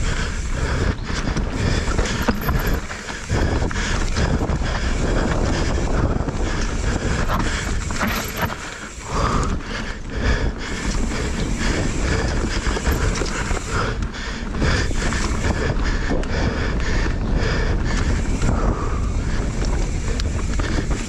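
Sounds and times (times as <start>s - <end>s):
bike knocking and rattling: 0.0s - 21.0s
bike tyres rolling over dirt: 0.0s - 21.0s
steady low rumble: 0.0s - 21.0s.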